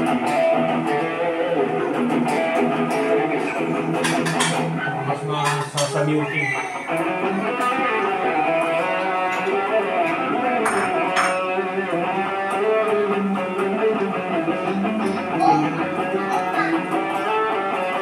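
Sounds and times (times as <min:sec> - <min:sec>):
distorted electric guitar: 0:00.0 - 0:18.0.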